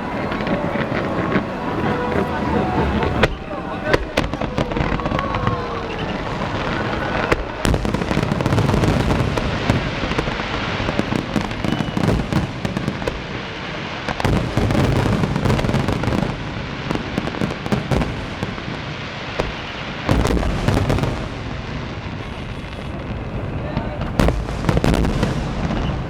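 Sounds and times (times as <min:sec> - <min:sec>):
fireworks bursts and crackling: 0:00.0 - 0:26.0.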